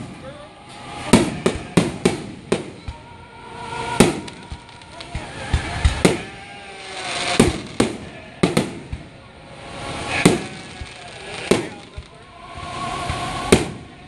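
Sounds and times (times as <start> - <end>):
firework shells bursting: 0.0 - 3.1, 3.8 - 12.3, 13.0 - 14.0
fireworks hissing and crackling: 0.0 - 14.0.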